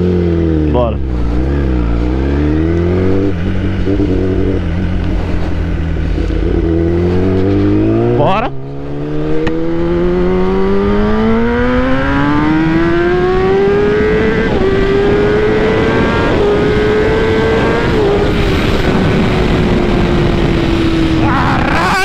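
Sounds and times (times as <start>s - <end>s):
motorcycle engine accelerating: 0.0s - 22.0s
wind rush over microphone: 1.1s - 22.0s.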